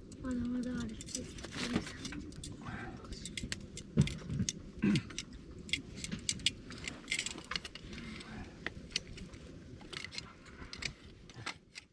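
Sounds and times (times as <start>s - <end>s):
low background rumble: 0.0s - 11.9s
sharp light clicks and clinks: 0.1s - 11.9s.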